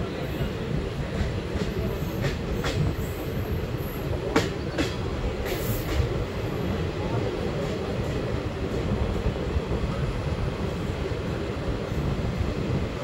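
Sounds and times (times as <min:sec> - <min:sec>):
train wheels rumbling on rails: 0:00.0 - 0:13.0
wheels clacking on track: 0:00.0 - 0:13.0.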